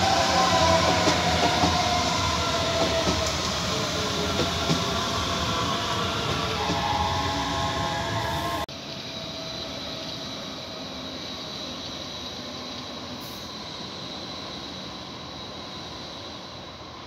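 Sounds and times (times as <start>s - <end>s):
light-rail train rolling: 0.0s - 17.0s.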